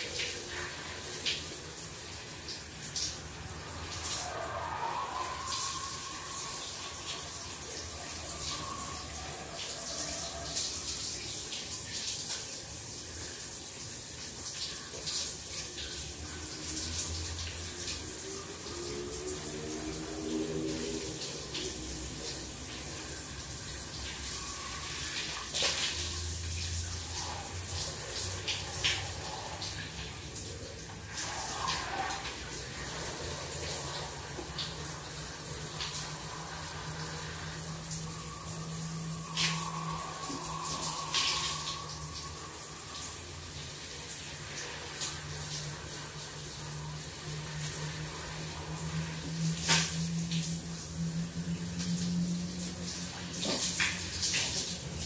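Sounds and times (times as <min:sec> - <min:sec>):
shower water running: 0:00.0 - 0:55.0.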